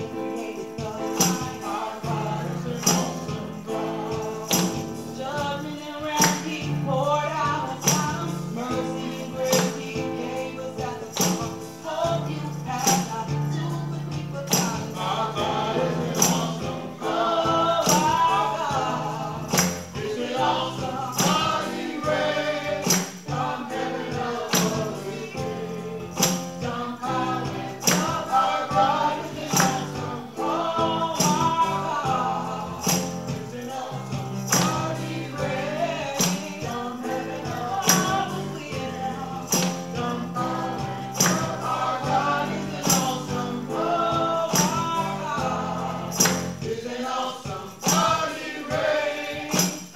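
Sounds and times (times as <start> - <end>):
electronic keyboard: 0.0 - 49.9
tambourine beat: 0.0 - 49.9
voices singing: 0.0 - 49.9.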